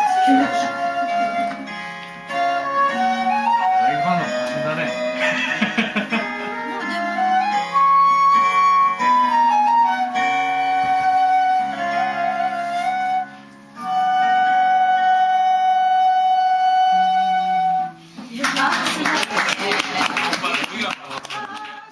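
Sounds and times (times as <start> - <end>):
wooden flute melody: 0.0 - 18.2
lower accompaniment: 0.0 - 21.9.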